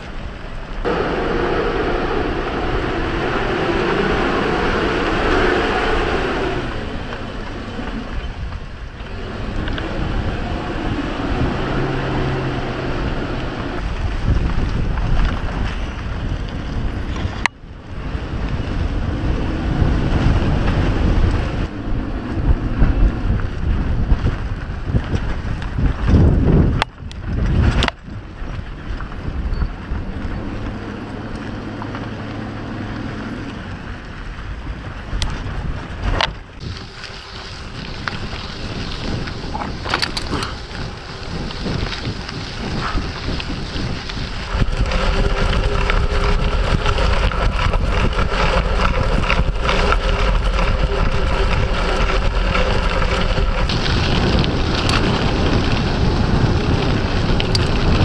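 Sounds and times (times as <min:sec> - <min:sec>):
low engine tone: 0:00.0 - 0:58.0
mountain bike riding downhill: 0:00.0 - 0:58.0
wind buffeting microphone: 0:00.0 - 0:58.0.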